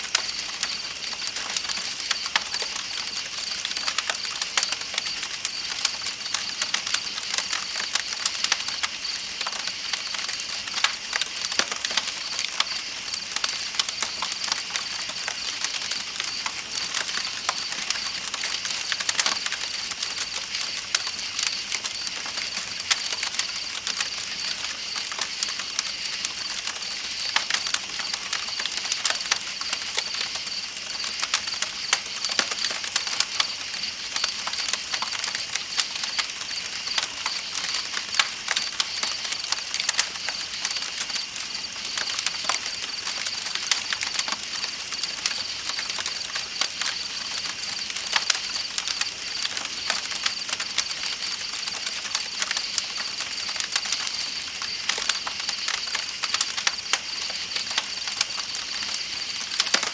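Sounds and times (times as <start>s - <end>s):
night insects chorus: 0.0s - 59.9s
campfire crackling and popping: 0.1s - 59.9s.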